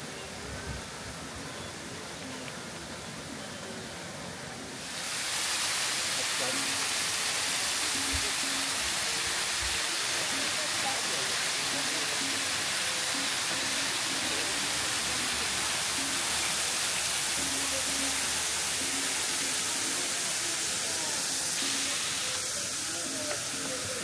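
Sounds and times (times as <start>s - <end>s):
waterfalls pouring into pool: 0.0s - 24.0s.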